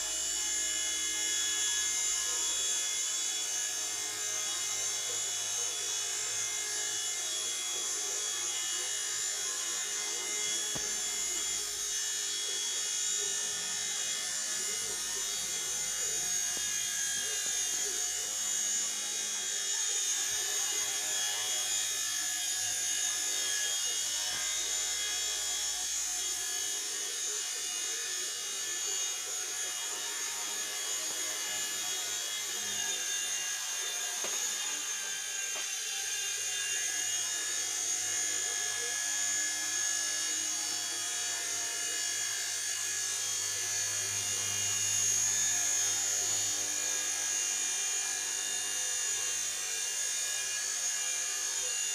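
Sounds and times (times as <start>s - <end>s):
toy helicopter motor whining: 0.0s - 51.9s.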